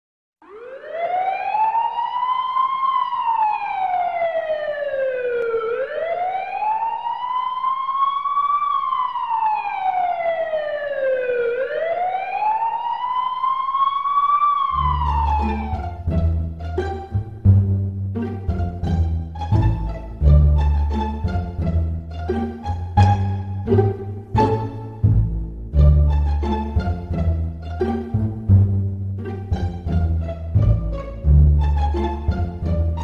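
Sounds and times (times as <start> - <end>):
police siren wailing: 0.4 - 33.0.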